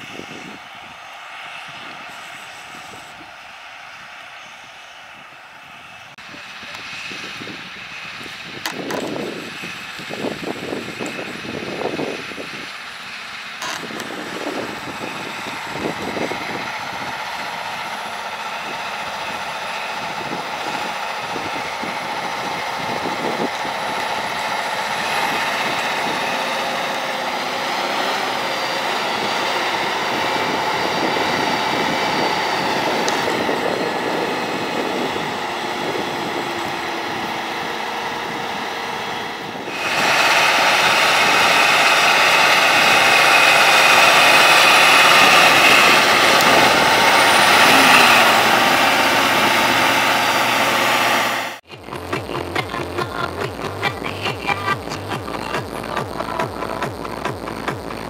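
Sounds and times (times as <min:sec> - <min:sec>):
tractor engine drone: 0:00.0 - 0:58.0.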